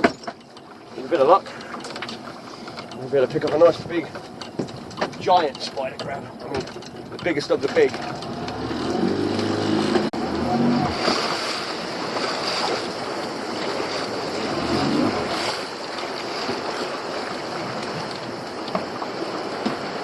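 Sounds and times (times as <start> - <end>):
sea water rushing around boat: 0.0 - 20.0.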